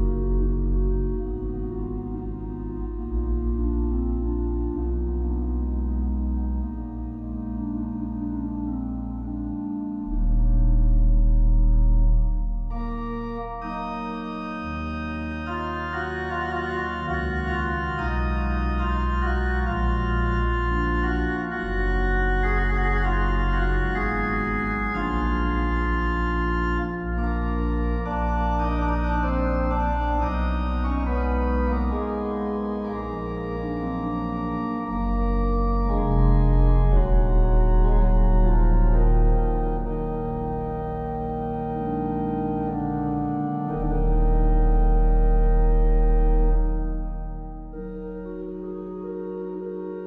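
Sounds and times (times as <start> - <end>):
slow organ music: 0.0 - 50.0.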